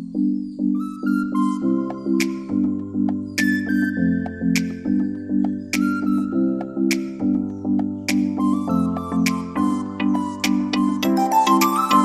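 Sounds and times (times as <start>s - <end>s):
background music with pulsing chords: 0.0s - 12.0s.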